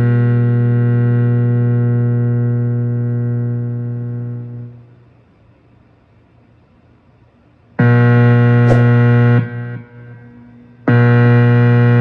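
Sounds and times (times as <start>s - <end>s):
amplifier mains hum: 0.0s - 12.0s.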